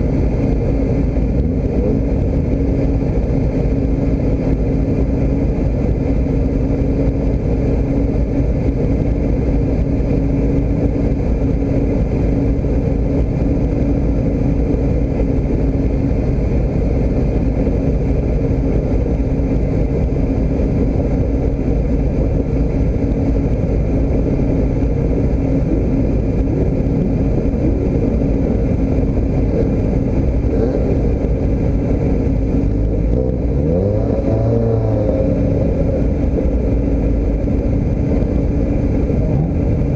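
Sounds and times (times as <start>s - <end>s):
vehicle engine running and revving: 0.0s - 39.9s.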